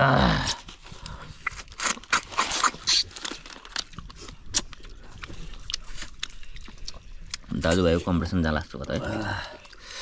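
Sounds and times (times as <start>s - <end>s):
people slurping snails: 0.0s - 10.0s
wet slurps and clicks: 1.0s - 10.0s.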